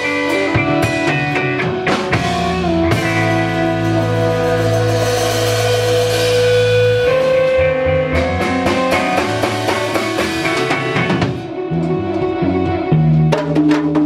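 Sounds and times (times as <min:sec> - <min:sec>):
band playing experimental rock: 0:00.0 - 0:14.0
drum kit: 0:00.0 - 0:14.0
guitar quick notes: 0:00.0 - 0:14.0.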